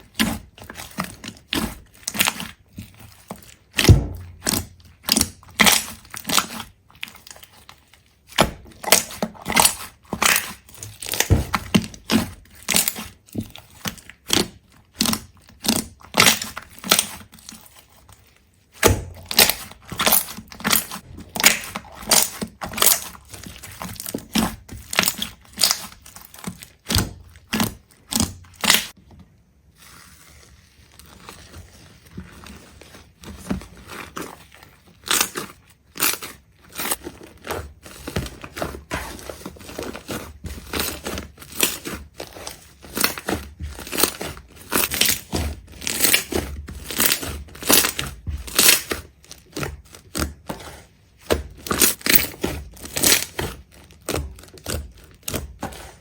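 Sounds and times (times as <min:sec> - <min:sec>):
crisp crunching and crackling: 0:00.0 - 0:29.0, 0:29.7 - 0:56.0.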